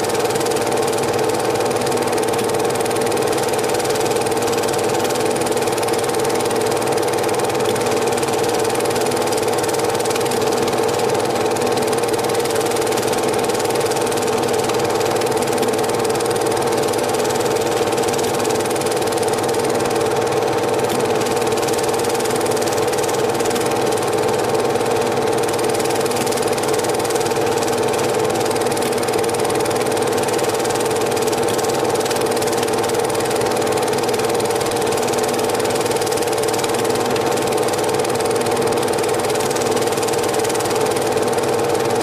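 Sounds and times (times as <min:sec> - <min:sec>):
film projector whirring: 0:00.0 - 0:42.0.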